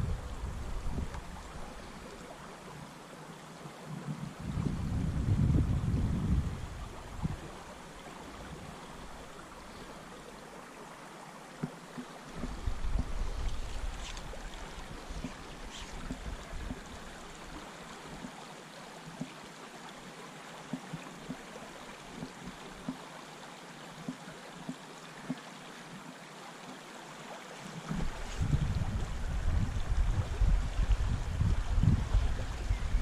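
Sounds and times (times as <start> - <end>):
river flowing over stones: 0.0 - 5.1, 5.9 - 33.0.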